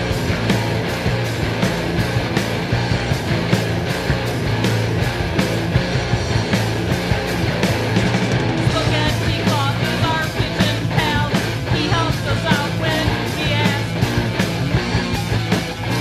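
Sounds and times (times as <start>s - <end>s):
loud rock band: 0.0s - 16.0s.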